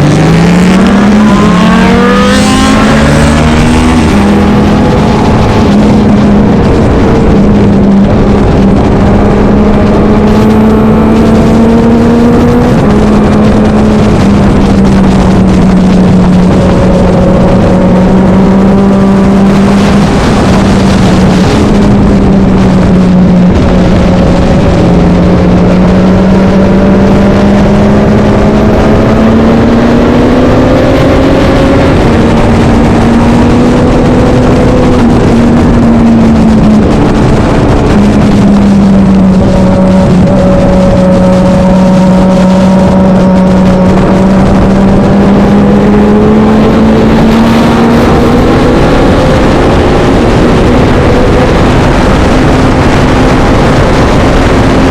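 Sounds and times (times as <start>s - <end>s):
racing motorcycle engine revving: 0.0s - 54.9s.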